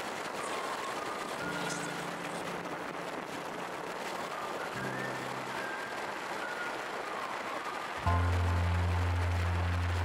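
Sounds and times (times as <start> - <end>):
wind and road rush: 0.0 - 10.0
background music: 0.4 - 10.0.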